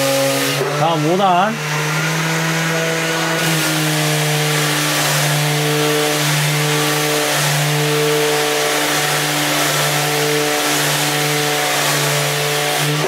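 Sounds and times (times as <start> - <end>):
orbital sander motor hum: 0.0 - 13.0.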